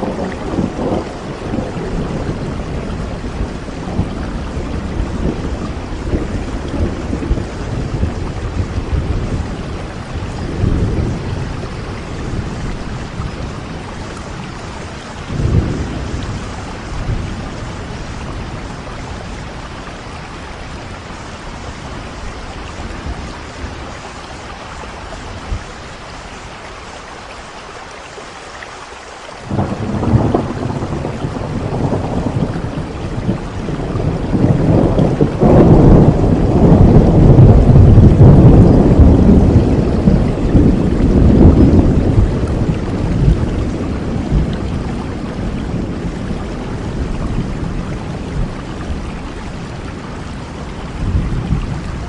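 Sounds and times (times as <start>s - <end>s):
rolling thunder: 0.0s - 25.9s, 29.4s - 52.0s
steady rain: 0.0s - 52.0s.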